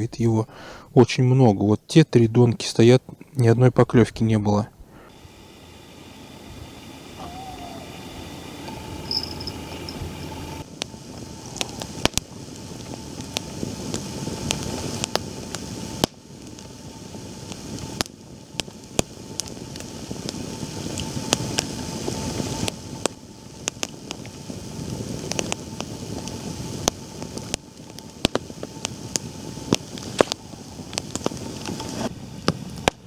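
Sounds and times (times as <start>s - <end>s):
campfire crackling and popping: 4.8s - 33.0s
rushing wind: 4.8s - 33.0s.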